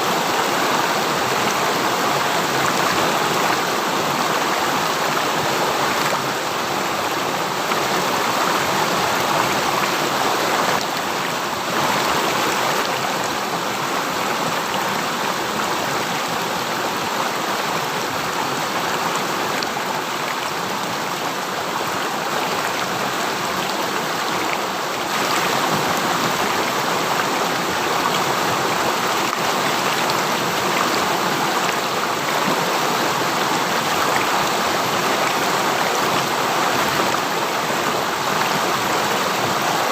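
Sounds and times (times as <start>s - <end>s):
river stream flowing: 0.0s - 39.9s.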